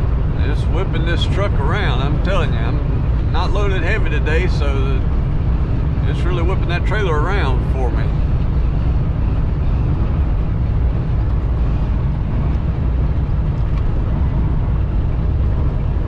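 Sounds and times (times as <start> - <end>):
diesel engine rumbling: 0.0 - 16.0
wind noise: 0.0 - 16.0.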